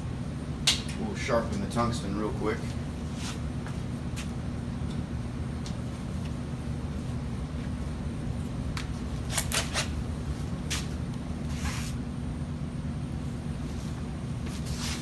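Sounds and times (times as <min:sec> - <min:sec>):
low shop hum: 0:00.0 - 0:15.0.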